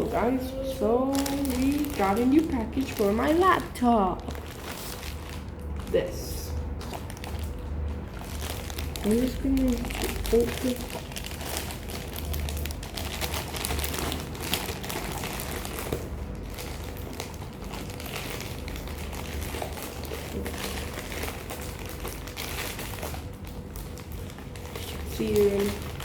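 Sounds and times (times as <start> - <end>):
packaging crinkling: 0.0 - 26.0.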